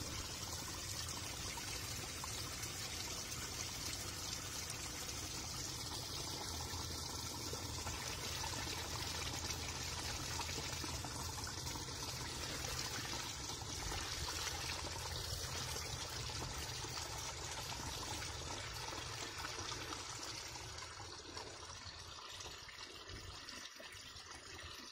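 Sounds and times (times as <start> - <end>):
stream trickling over stones: 0.0 - 24.9.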